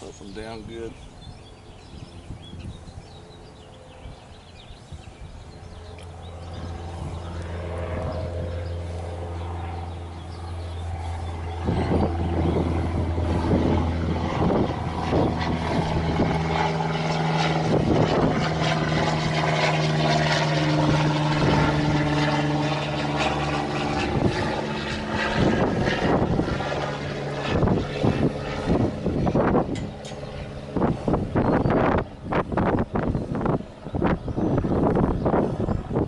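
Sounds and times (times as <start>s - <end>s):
aircraft engine drone: 0.0s - 36.0s
wind noise: 0.0s - 36.0s.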